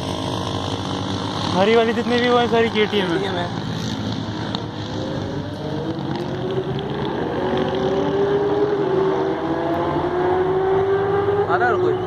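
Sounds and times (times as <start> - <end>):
motorcycle engine accelerating: 0.0 - 12.0
motorcycles riding past: 0.0 - 12.0.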